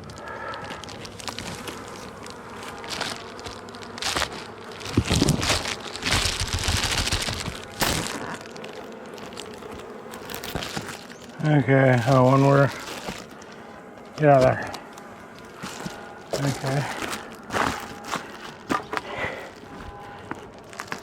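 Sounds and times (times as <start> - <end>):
bees buzzing: 0.0 - 21.0
hive parts knocking and rustling: 0.0 - 21.0.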